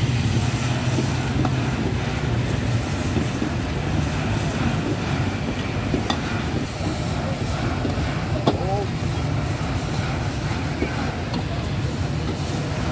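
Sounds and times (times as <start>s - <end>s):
traffic noise: 0.0s - 12.9s.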